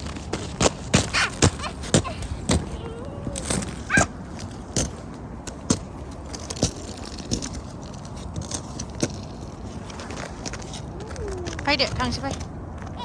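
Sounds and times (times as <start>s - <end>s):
footsteps crunching on icy slush: 0.0s - 2.7s, 3.4s - 12.9s.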